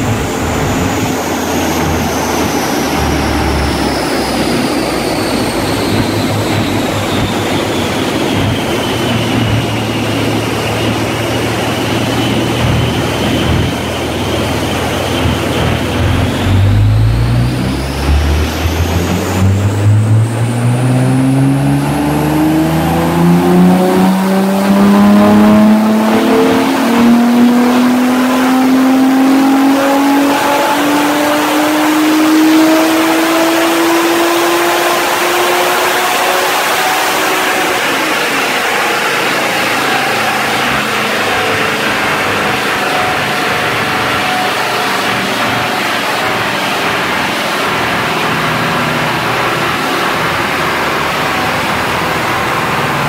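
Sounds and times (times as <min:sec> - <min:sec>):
car engine revving on dyno: 0:00.0 - 0:53.0
turbo whine: 0:00.0 - 0:53.0.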